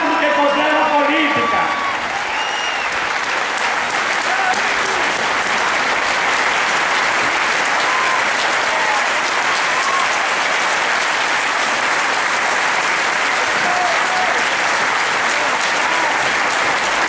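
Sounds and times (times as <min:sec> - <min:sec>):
large crowd applauding: 0:00.0 - 0:17.0.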